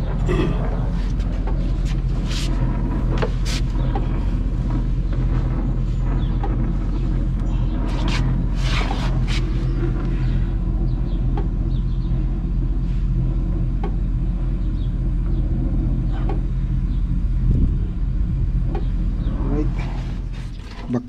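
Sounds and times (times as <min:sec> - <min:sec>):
torch flame rumbling: 0:00.0 - 0:21.0.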